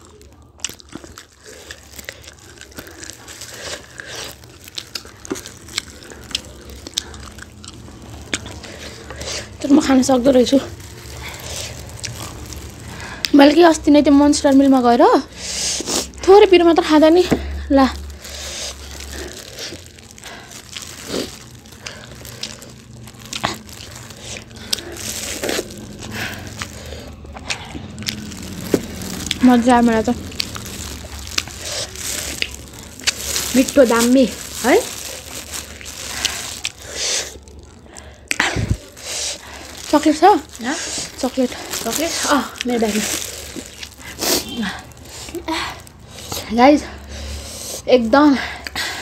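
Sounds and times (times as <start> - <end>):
biting and chewing food: 0.0 - 13.5, 15.3 - 47.6
plastic gloves crinkling: 0.0 - 47.3.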